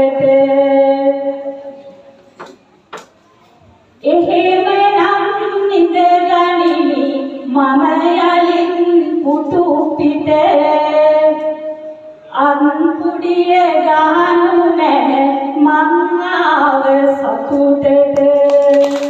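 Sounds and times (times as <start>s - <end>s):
woman singing into a microphone: 0.0s - 1.8s, 4.0s - 19.0s.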